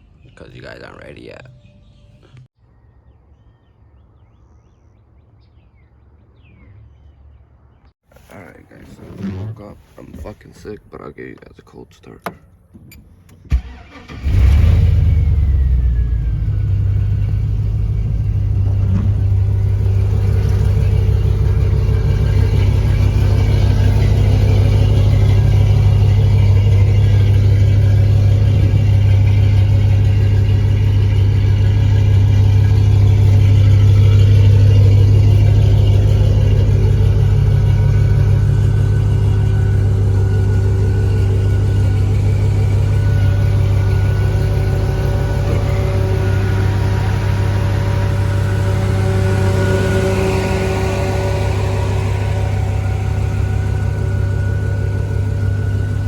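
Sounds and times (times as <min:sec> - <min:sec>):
truck engine idling: 0:08.2 - 0:56.0.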